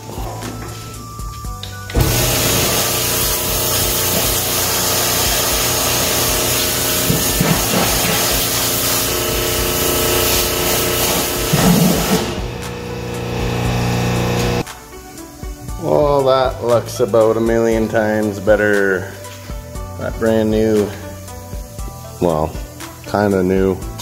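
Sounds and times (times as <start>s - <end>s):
pressure washer jet hissing: 1.9s - 23.0s.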